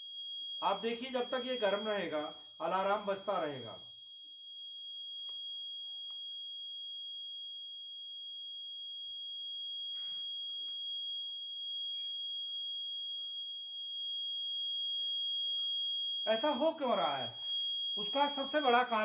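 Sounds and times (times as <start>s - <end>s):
buzzer steady high-pitched tone: 0.0s - 19.0s.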